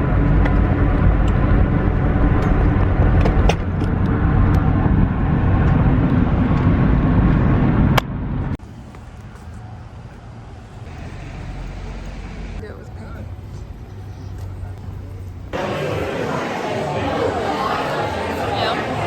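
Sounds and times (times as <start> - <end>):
car road rumble: 0.0 - 16.7.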